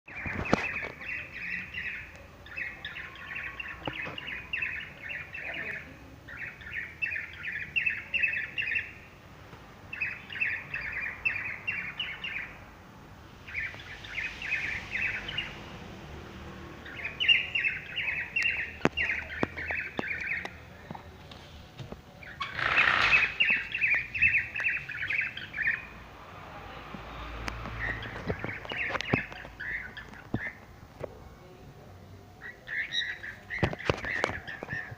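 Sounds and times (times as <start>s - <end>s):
bird chirping: 0.1s - 9.2s, 9.9s - 12.7s, 13.4s - 21.2s, 22.1s - 30.8s, 31.4s - 34.9s.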